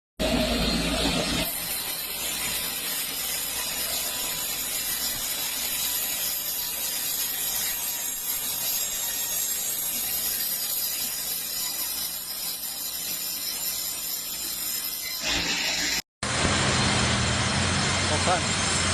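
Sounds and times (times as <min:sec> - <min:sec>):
saw cutting through log: 0:00.2 - 0:18.9.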